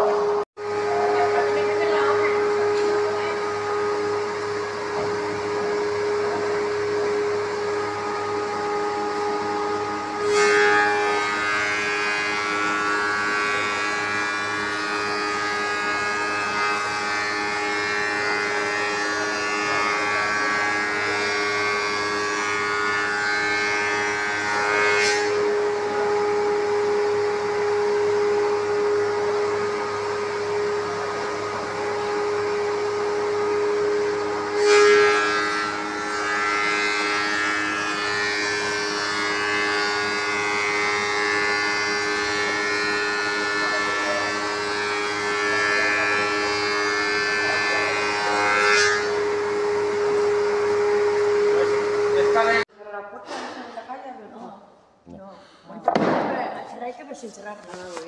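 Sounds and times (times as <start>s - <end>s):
spindle moulder humming: 0.0s - 52.6s
high-pitched wood cutting whine: 0.0s - 52.7s.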